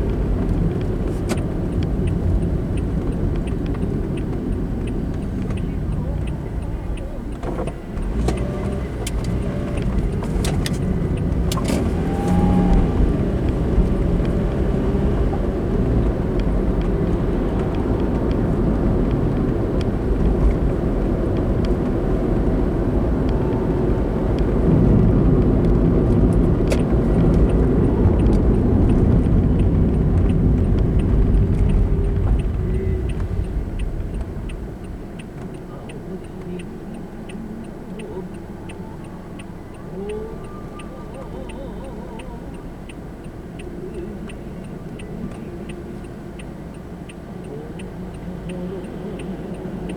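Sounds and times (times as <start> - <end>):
car tyre and engine drone: 0.0 - 49.9
sharp clicks: 0.0 - 49.9.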